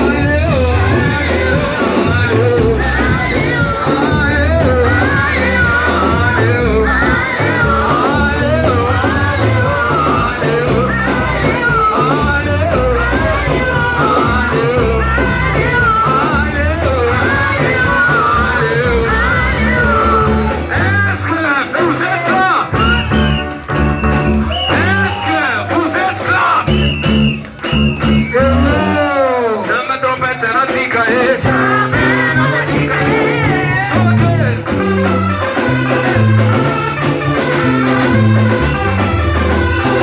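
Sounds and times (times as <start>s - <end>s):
steady bass line: 0.0s - 29.7s, 31.2s - 40.0s
voices singing over a band: 0.0s - 40.0s.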